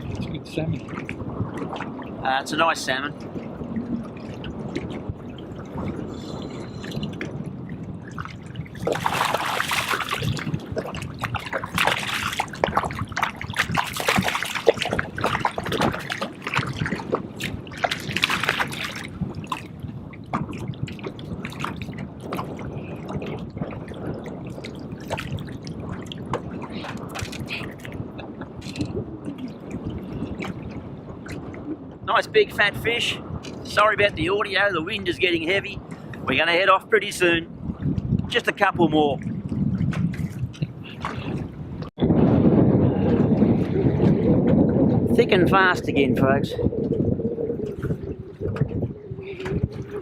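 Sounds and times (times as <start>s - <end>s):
water splashing beside boat: 0.0s - 32.1s, 32.8s - 42.0s, 43.1s - 50.0s
wind buffeting microphone: 0.0s - 50.0s.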